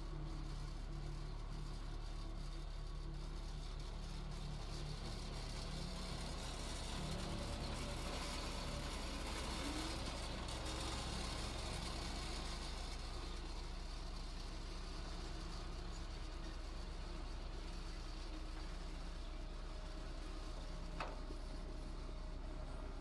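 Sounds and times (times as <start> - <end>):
diesel machinery engine running: 0.0 - 23.0.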